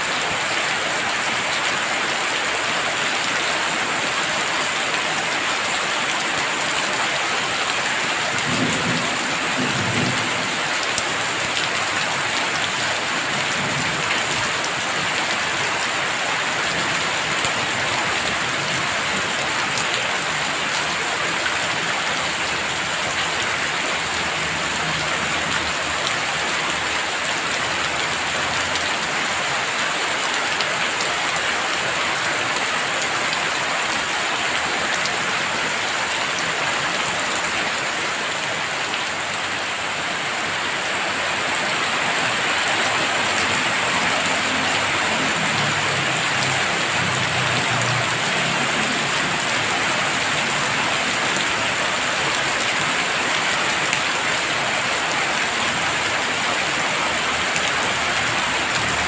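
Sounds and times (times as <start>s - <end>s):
heavy rain hissing: 0.8s - 36.8s, 37.5s - 59.0s.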